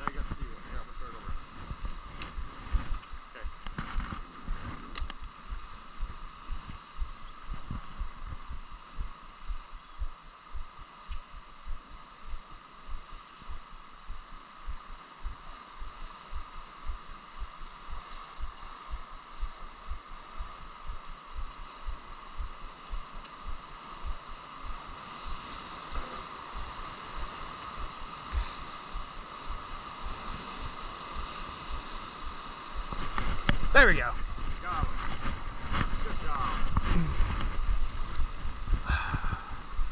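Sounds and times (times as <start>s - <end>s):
steady hum: 0.0s - 39.9s
wind and water thumping boat: 0.0s - 39.9s.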